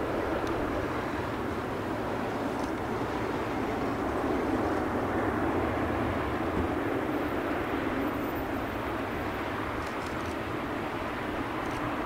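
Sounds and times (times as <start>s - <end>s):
distant jet engines roaring: 0.0s - 12.0s.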